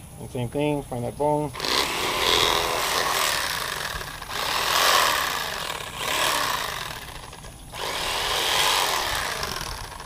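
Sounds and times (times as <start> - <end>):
electric fillet knife buzzing: 1.6 - 10.0.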